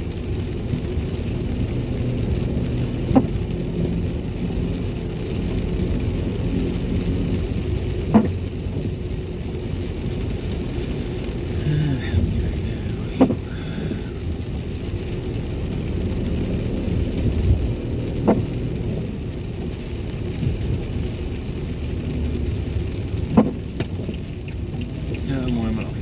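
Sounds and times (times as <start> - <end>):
rain hissing: 0.0 - 26.0
tyres and engine rumble: 0.0 - 26.0
windscreen wiper sweeping: 0.0 - 26.0.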